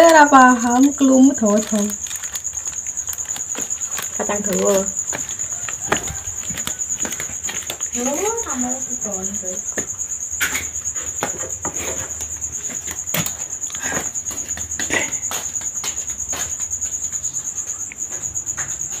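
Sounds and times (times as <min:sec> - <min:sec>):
cricket trilling: 0:00.0 - 0:19.0.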